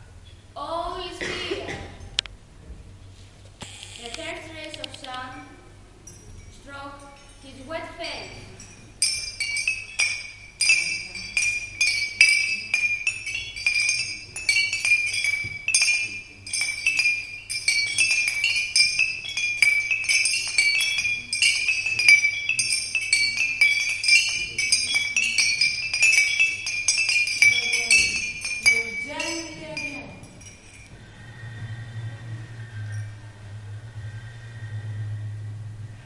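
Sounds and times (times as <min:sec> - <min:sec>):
glassy chimes jingling: 0:04.0 - 0:34.8.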